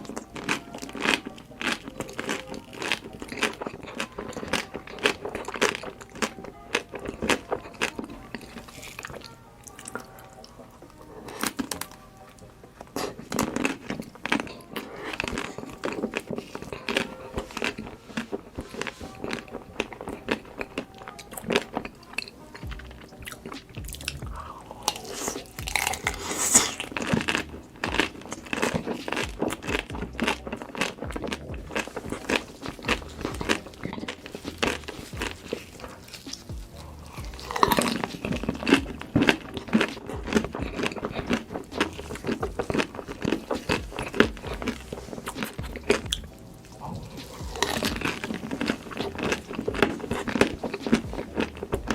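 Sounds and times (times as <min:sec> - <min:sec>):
background music: 0:00.0 - 0:51.9
person chewing crunchy food: 0:00.0 - 0:51.9.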